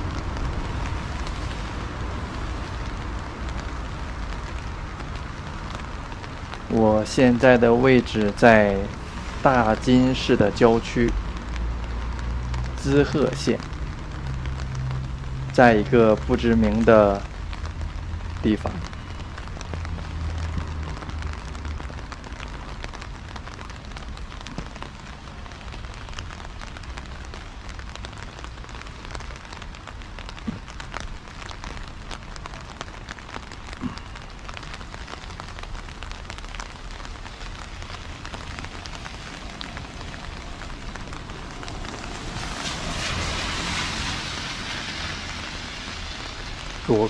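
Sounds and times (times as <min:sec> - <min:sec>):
car tyres on wet road: 0:00.0 - 0:47.0
light rain falling: 0:00.0 - 0:47.0.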